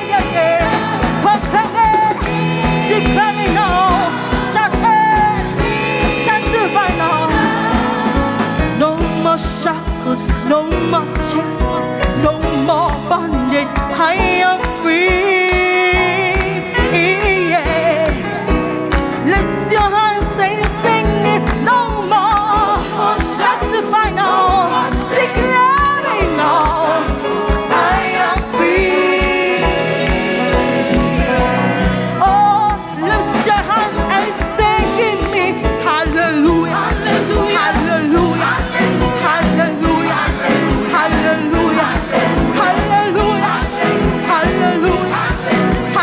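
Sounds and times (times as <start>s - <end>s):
driving drum beat: 0.0s - 14.4s, 21.9s - 46.0s
choir and lead singer singing: 0.0s - 18.3s, 19.3s - 46.0s
band playing: 0.0s - 46.0s.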